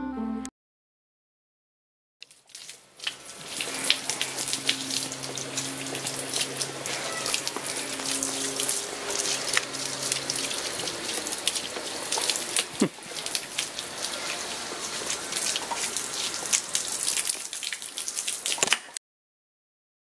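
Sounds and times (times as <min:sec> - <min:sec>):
hose water splashing on stone: 0:02.2 - 0:19.0.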